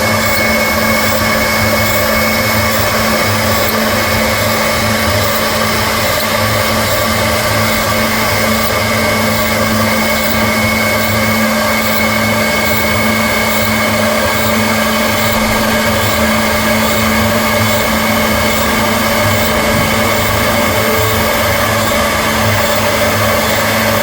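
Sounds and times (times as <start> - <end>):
milling machine spindle whine: 0.0 - 24.0.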